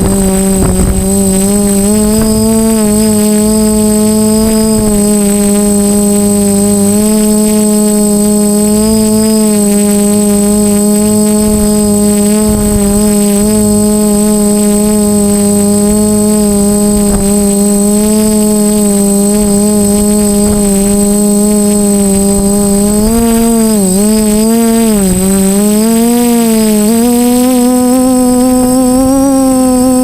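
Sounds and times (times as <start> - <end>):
quadcopter motors humming: 0.0 - 30.0.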